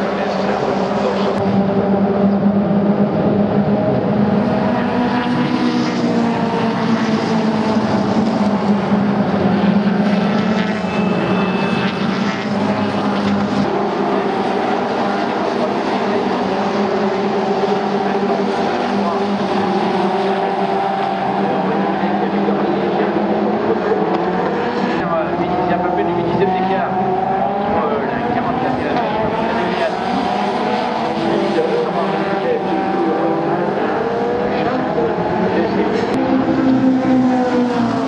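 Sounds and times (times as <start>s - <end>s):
race cars passing at speed: 0.0s - 38.0s.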